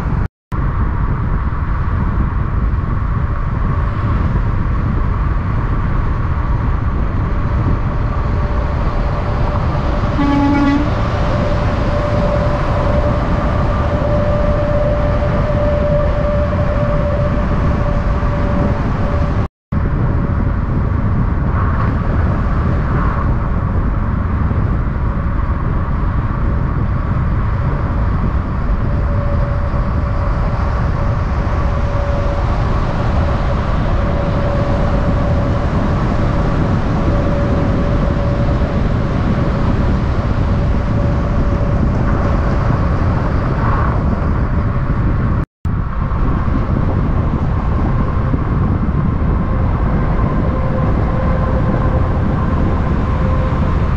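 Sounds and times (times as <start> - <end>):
truck diesel engine rumbling: 3.5 - 21.2, 22.1 - 53.9.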